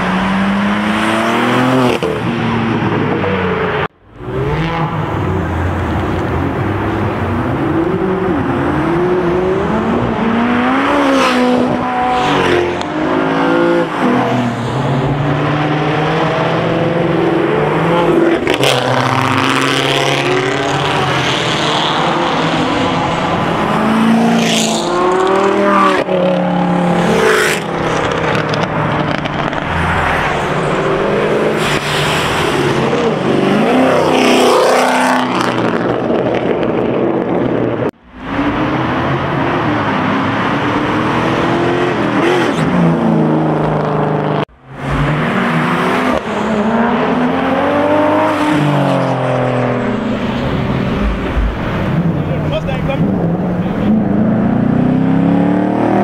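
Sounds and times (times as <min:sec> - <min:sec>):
car engines revving past: 0:00.0 - 0:56.0
tyre and road noise: 0:00.0 - 0:56.0.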